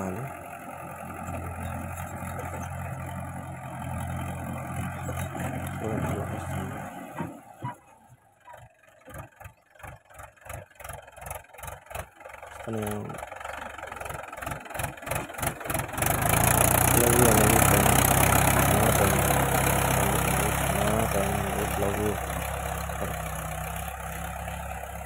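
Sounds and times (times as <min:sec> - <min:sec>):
diesel tractor engine: 0:00.0 - 0:25.0.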